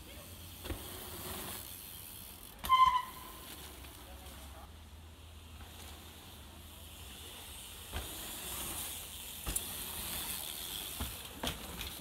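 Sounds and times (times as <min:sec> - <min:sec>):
bikes knocking: 0:00.0 - 0:04.6, 0:05.4 - 0:12.0
bike tyres rolling on dirt: 0:00.0 - 0:12.0.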